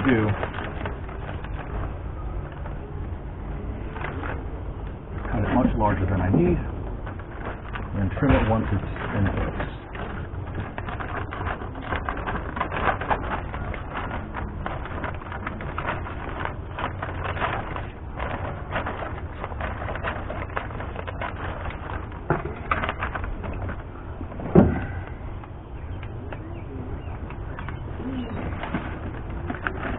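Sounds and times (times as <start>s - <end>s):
plastic sheet crinkling and rustling: 0.0s - 29.9s.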